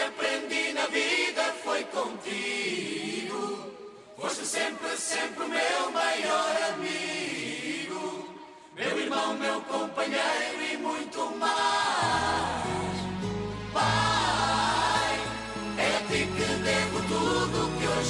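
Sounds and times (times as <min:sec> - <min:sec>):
voices singing: 0:00.0 - 0:18.0.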